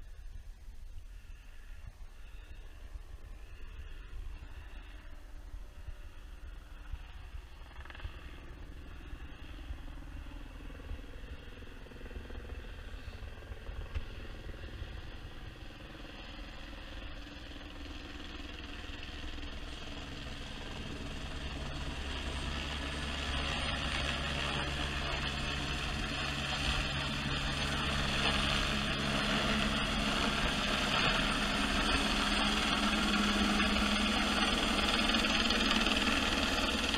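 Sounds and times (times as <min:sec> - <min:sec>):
helicopter rotor and engine: 0:01.1 - 0:36.9.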